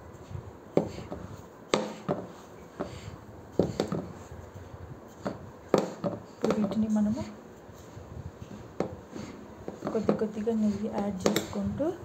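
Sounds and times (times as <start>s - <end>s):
hand rubbing powder in bowl: 0.0s - 11.9s.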